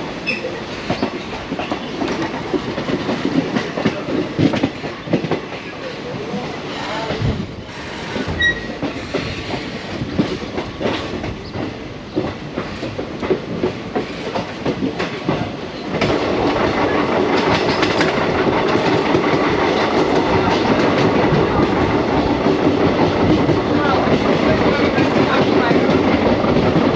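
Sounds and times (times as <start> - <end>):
train rumble: 0.0 - 26.9
train wheels clattering over rails: 0.0 - 26.9.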